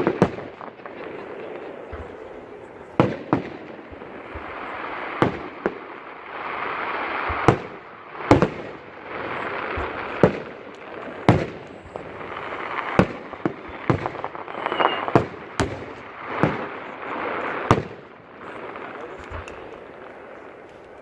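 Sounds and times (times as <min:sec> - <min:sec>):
crackling hiss: 0:00.0 - 0:21.0
fireworks bangs: 0:00.0 - 0:21.0.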